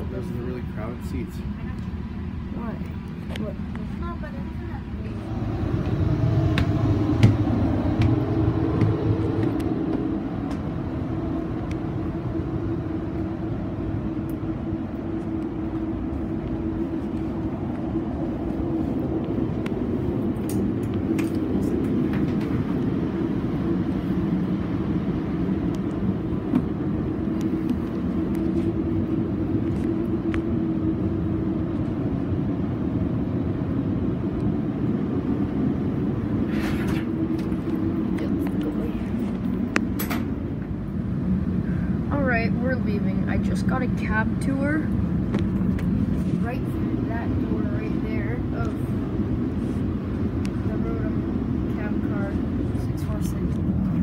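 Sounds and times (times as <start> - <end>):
train rumble with hum: 0.0 - 54.0.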